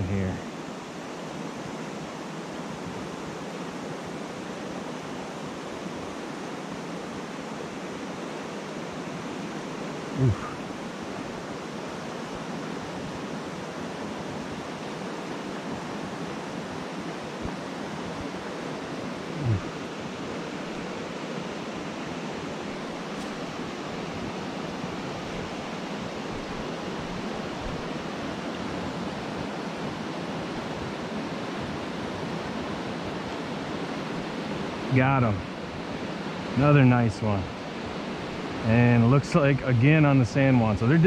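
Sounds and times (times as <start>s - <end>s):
mountain stream rushing: 0.0s - 41.0s.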